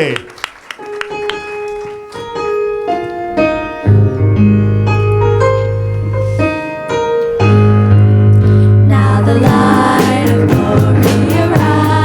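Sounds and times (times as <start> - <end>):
piano chords: 0.8 - 12.0.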